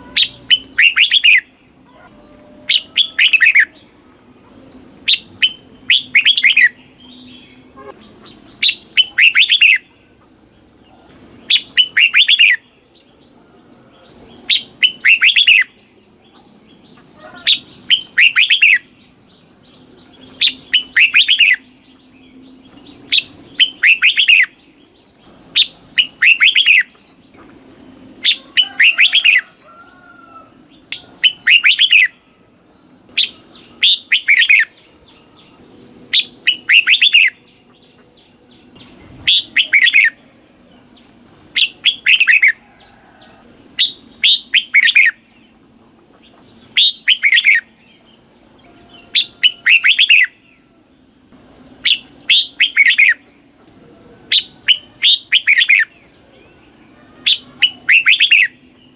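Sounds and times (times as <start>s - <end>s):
bulbul warbling song: 0.0s - 30.1s, 30.8s - 42.6s, 43.6s - 58.9s.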